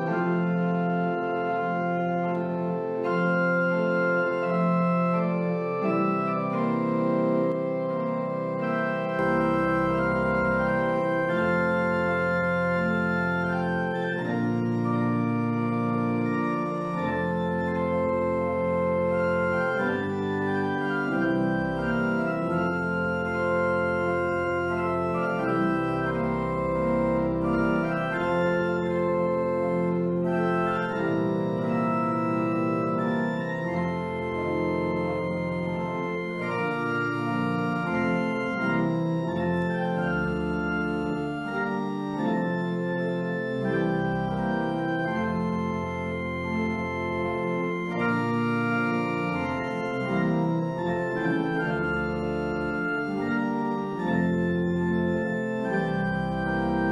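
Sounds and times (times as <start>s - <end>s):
pipe organ playing chords: 0.0s - 56.9s.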